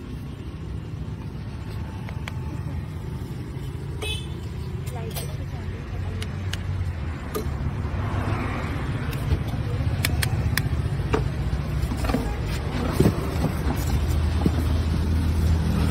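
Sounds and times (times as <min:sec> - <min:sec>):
low engine hum of traffic: 0:00.0 - 0:15.9.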